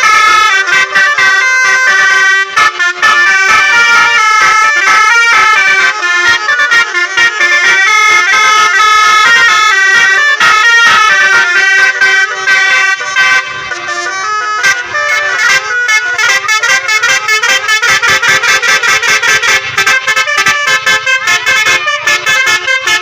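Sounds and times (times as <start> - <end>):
musical air horns playing melody: 0.0 - 23.0.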